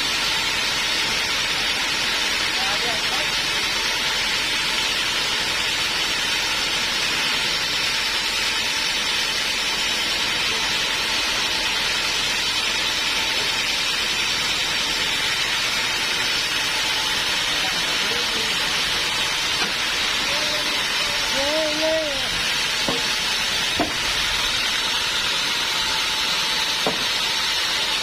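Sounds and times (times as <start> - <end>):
band saw running: 0.0 - 28.0.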